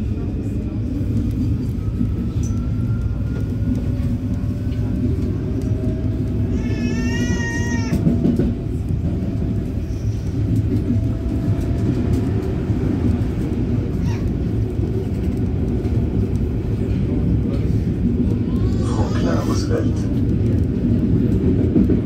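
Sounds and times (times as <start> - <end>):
train rumble inside car: 0.0 - 22.0.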